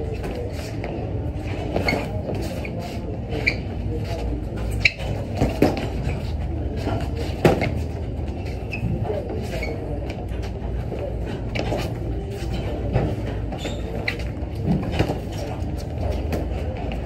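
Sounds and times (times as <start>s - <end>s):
room hum: 0.0s - 17.0s
shoes squeaking on floor: 0.0s - 17.0s.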